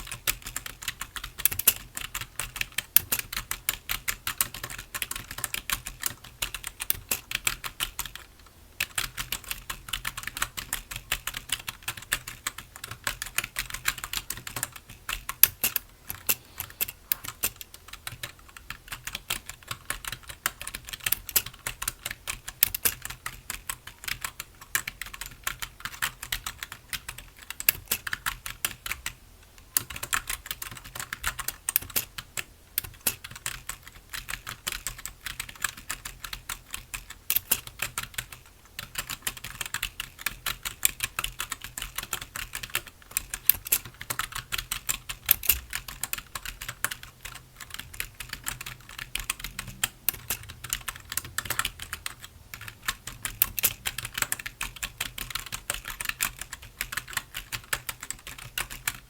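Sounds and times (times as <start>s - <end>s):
typing on computer keyboard: 0.0s - 59.0s.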